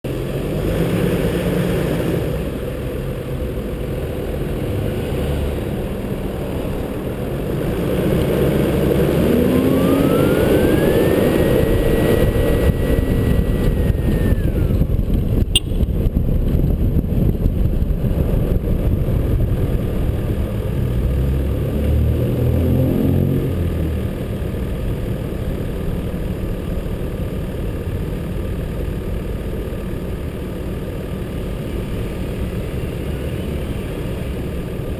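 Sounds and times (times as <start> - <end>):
engine whine: 0.0 - 34.9
vehicle engine and road noise: 0.0 - 34.9.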